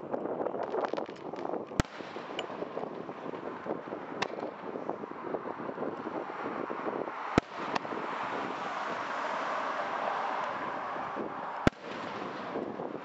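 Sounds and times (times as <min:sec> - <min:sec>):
steady rushing noise: 0:01.3 - 0:13.0.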